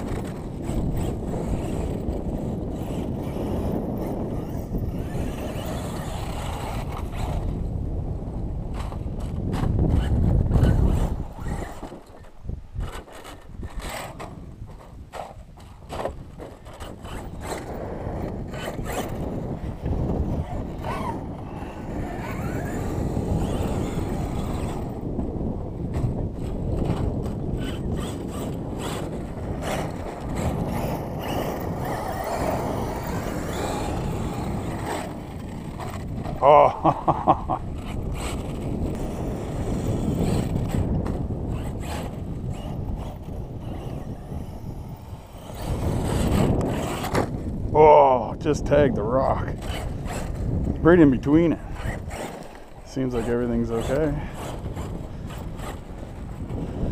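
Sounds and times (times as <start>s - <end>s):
tyres scraping on gravel: 0.0s - 7.6s, 8.7s - 47.6s, 48.5s - 56.9s
electric motor whining: 0.0s - 7.8s, 8.4s - 48.0s, 49.4s - 56.9s
wind rumble on microphone: 0.0s - 56.9s.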